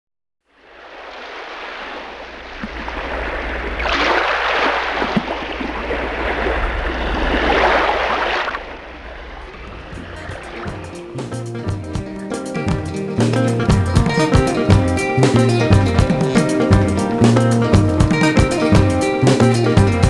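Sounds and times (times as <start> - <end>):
waves breaking: 0.4 - 20.0
low surf rumble: 2.0 - 18.9.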